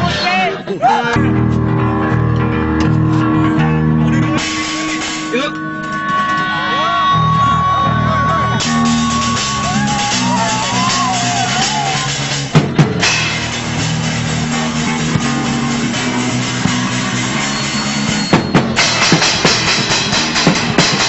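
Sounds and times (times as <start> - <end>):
distorted guitar: 1.2 - 21.0
drum kit: 1.2 - 21.0.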